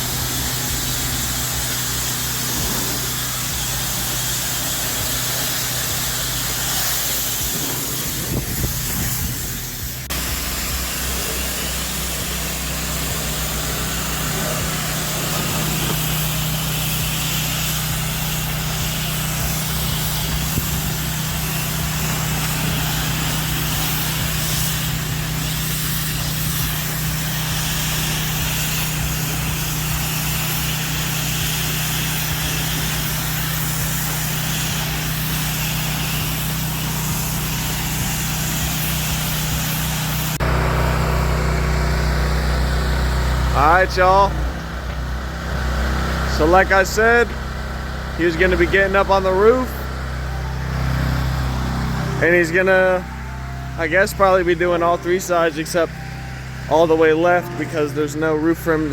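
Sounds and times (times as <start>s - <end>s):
water spraying hiss: 0.0s - 50.0s
pressure washer engine running: 0.0s - 58.9s.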